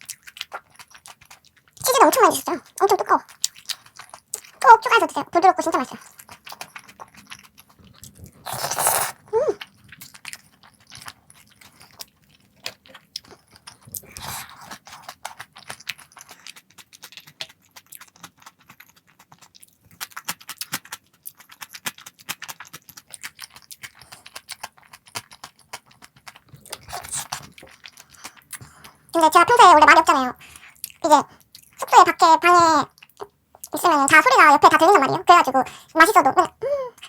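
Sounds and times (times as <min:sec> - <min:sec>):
person chewing crunchy food: 0:00.0 - 0:37.0.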